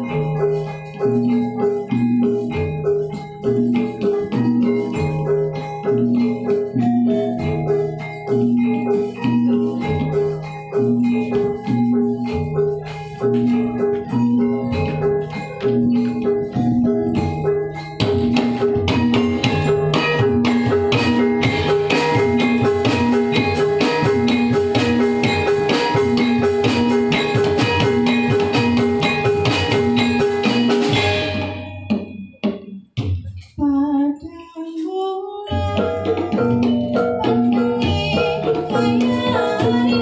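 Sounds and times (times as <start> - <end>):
wavering melody line: 0.0 - 32.6, 34.3 - 40.0
dance music with drums: 0.0 - 40.0.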